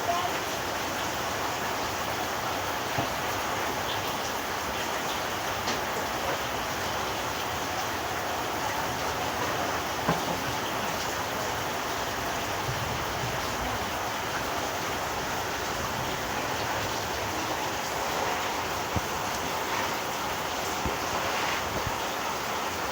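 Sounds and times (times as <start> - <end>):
water hissing: 0.5 - 22.9.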